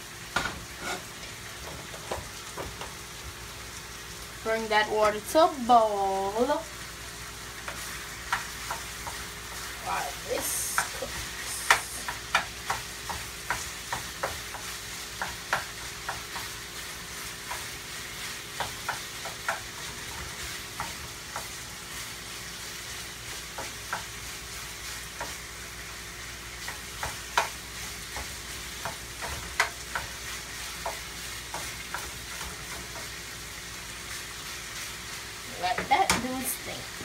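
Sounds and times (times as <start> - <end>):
chicken sizzling in skillet: 0.0 - 37.0.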